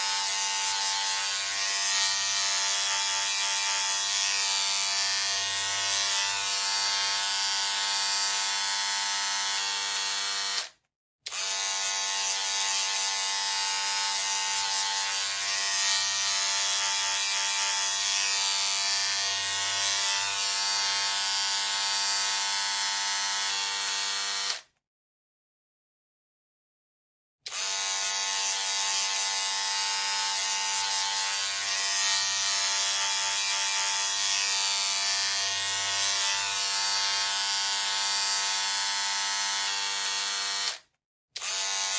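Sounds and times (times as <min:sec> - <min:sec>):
electric hair clipper buzzing: 0:00.0 - 0:24.7, 0:27.5 - 0:41.9.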